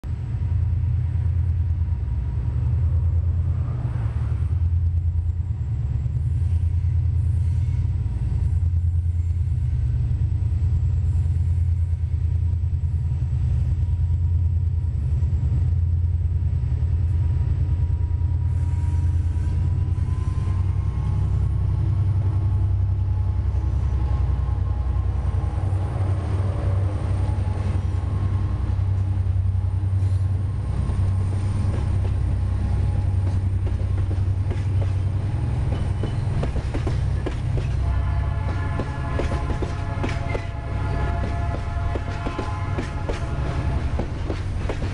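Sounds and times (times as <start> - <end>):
diesel freight train approaching: 0.0 - 44.9
train wheels rumbling on rails: 0.0 - 44.9.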